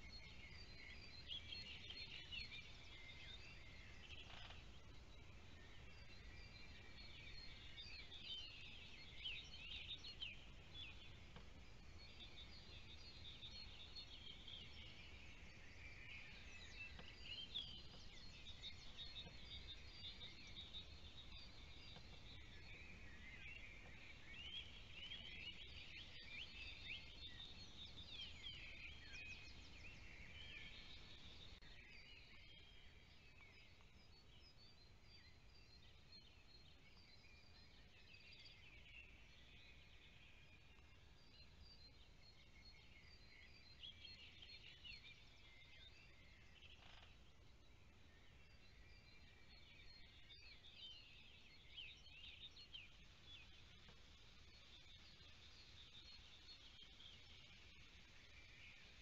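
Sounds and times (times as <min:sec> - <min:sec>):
low outdoor background: 0:00.0 - 0:59.0
songbirds chirping: 0:00.0 - 0:59.0.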